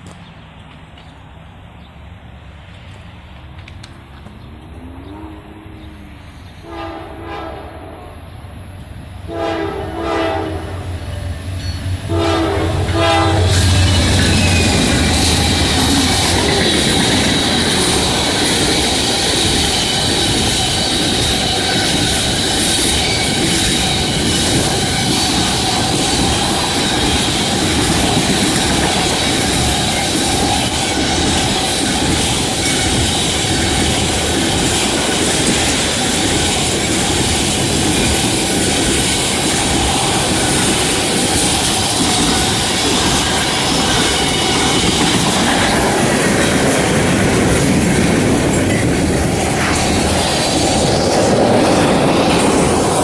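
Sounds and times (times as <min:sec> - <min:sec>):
train wheels on rails: 0:00.0 - 0:05.1, 0:05.8 - 0:53.0.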